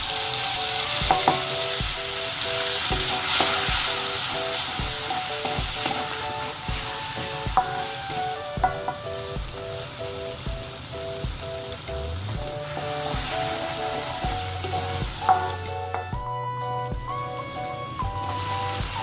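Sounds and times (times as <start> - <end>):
food sizzling in a pan: 0.0 - 16.2, 17.4 - 19.0
background music with steady beat: 0.0 - 19.0.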